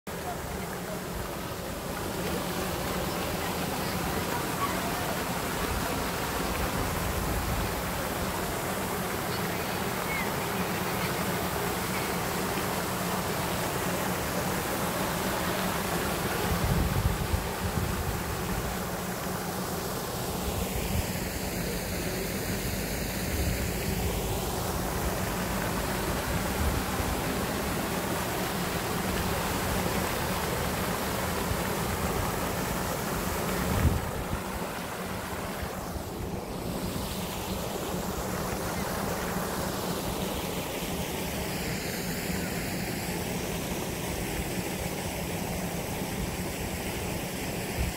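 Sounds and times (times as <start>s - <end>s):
fountain water splashing: 0.1s - 47.9s.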